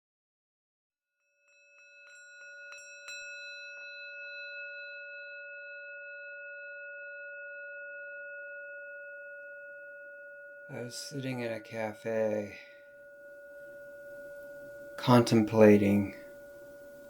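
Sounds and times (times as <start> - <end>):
bell-like ringing tone: 1.2 - 17.0.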